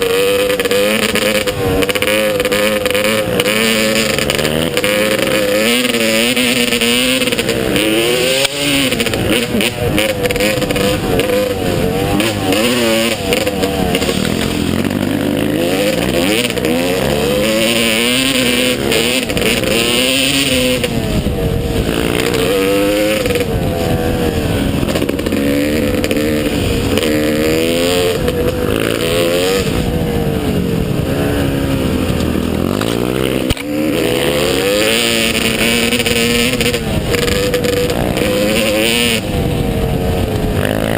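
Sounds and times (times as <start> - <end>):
motorcycle engine revving hard: 0.0 - 40.9.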